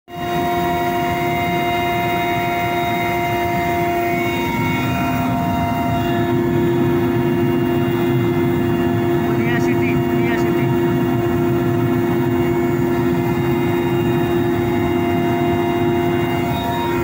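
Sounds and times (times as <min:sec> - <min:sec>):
helicopter turbine whine: 0:00.1 - 0:17.0
low rumble of rotor: 0:00.1 - 0:17.0.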